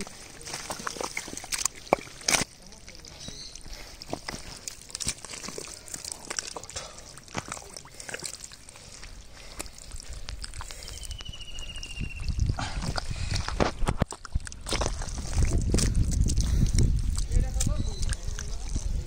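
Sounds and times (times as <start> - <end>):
hand squelching through wet mud: 0.0 - 19.0.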